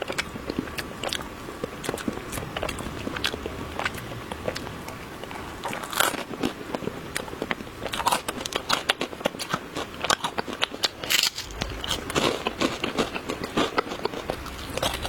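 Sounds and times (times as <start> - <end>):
crunching and chewing chocolate: 0.0 - 15.0.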